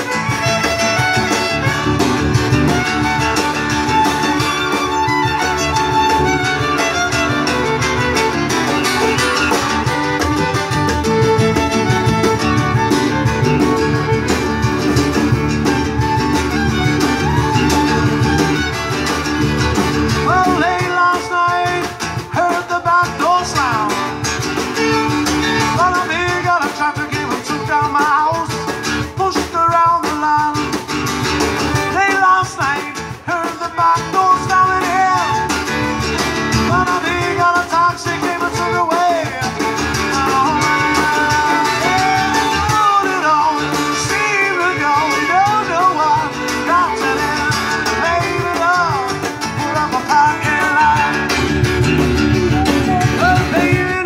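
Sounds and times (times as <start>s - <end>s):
fiddle melody: 0.0s - 29.2s, 30.9s - 54.0s
drum and conga percussion: 0.0s - 54.0s
strummed acoustic guitar: 0.0s - 54.0s.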